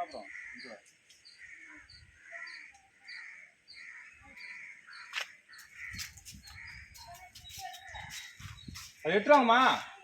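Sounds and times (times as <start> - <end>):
bird calling rhythmically: 0.1 - 9.0.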